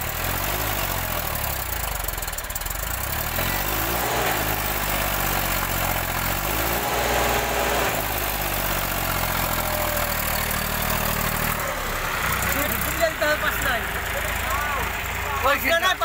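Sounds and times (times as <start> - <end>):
tractor diesel engines running: 0.0 - 16.0.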